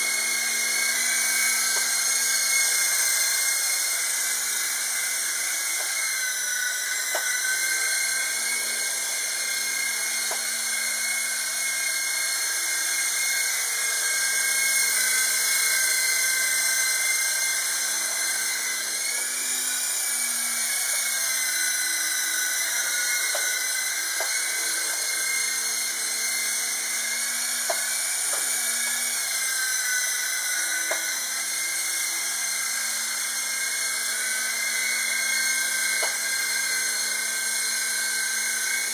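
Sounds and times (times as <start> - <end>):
toy helicopter motors whining: 0.0 - 38.9.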